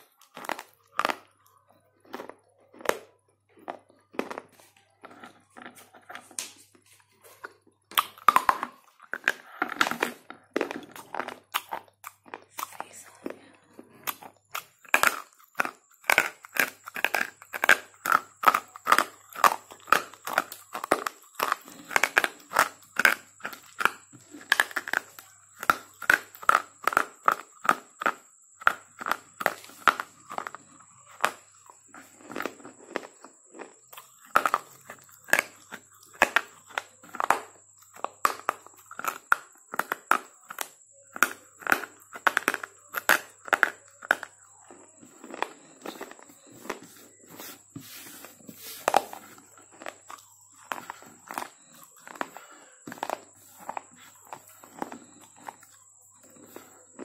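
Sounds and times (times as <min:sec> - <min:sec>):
slate pencil being chewed: 0:00.0 - 0:57.0.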